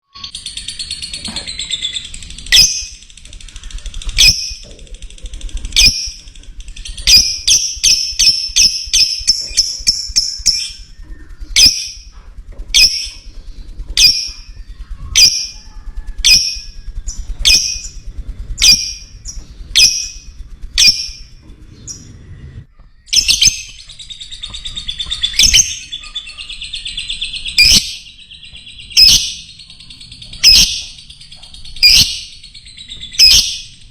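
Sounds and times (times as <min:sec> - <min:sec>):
lovebird trilling chatter: 0:00.1 - 0:22.2, 0:22.8 - 0:33.9.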